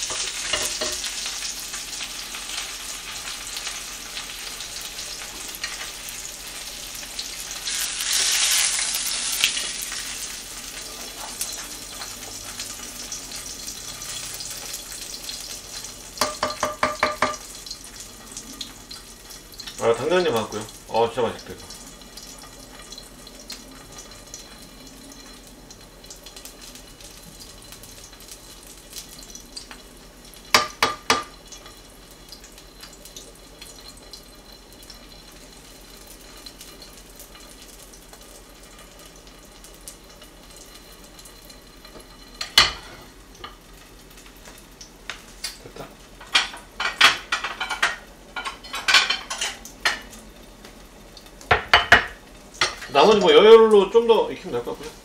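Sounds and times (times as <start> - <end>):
fish sizzling in frying pan: 0.0 - 55.0.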